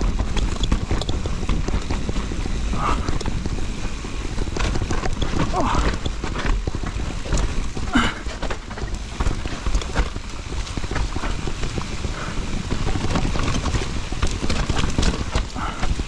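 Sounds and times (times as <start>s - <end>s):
low rumble: 0.0s - 16.0s
mountain bike rattling: 0.0s - 16.0s.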